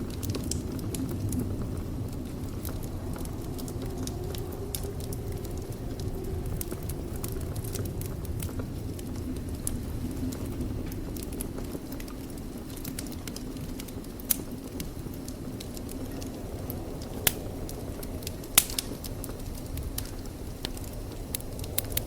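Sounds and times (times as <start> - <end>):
low rumble of burning: 0.0 - 22.0
wood fire crackling and popping: 0.0 - 22.0.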